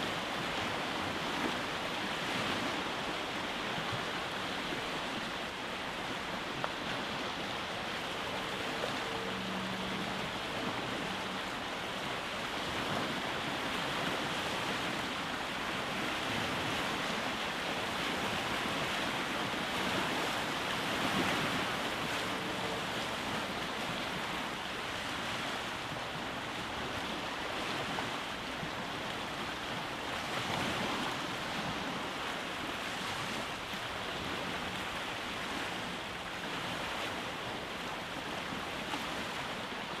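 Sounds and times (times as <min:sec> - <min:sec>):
waves breaking on rocky shore: 0:00.0 - 0:40.0.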